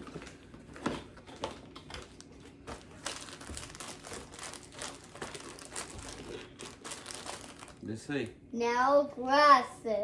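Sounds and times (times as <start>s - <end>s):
plastic and cardboard packaging crinkling: 0.0s - 8.0s.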